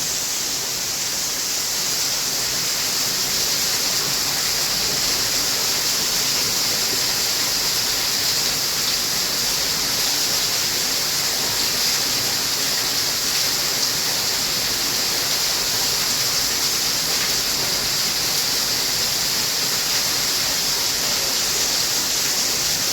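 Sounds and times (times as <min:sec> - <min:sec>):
rushing falling water: 0:00.0 - 0:22.9.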